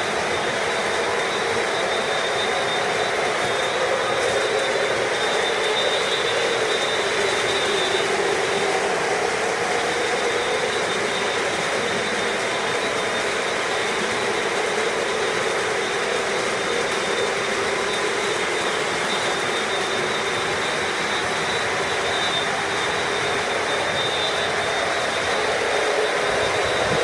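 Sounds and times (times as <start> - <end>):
model trains rumbling on track: 0.0 - 27.0.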